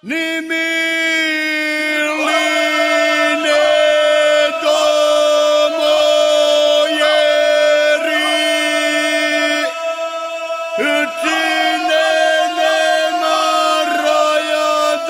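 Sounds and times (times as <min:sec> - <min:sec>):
unaccompanied folk singing voices: 0:01.8 - 0:15.0.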